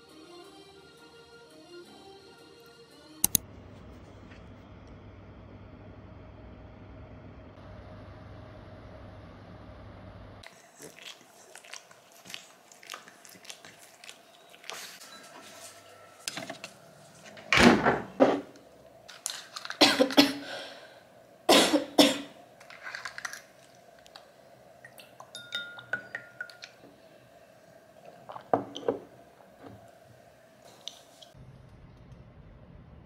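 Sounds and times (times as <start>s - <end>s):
faint steady hum: 3.3s - 33.0s.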